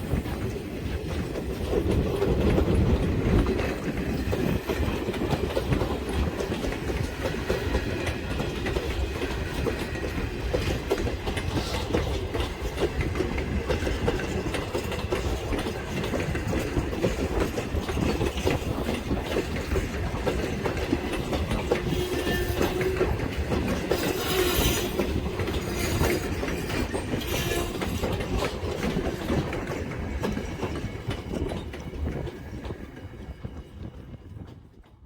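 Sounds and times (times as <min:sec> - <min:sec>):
train wheels clicking over rail joints: 0:00.0 - 0:35.0.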